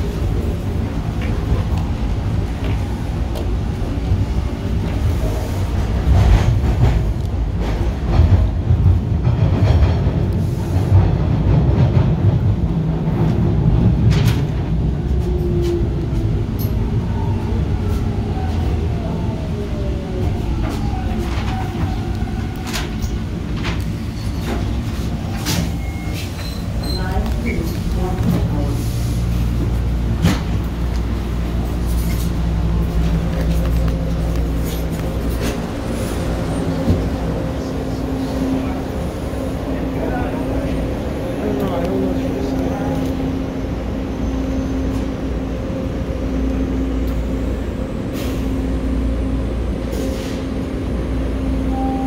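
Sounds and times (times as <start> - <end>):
subway train rumbling on rails: 0.0 - 52.0.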